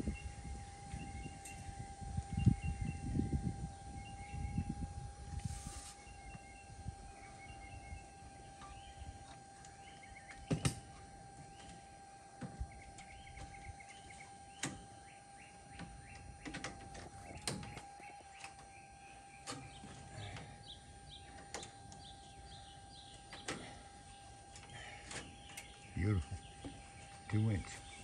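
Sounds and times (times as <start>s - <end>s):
birds chirping: 0.0s - 28.0s
faint steady tone: 0.0s - 28.0s.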